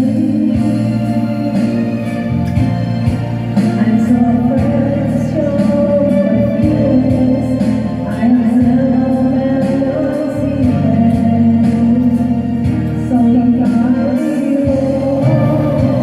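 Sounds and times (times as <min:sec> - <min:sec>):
karaoke backing track with beat: 0:00.0 - 0:16.0
woman singing into microphone: 0:00.0 - 0:16.0.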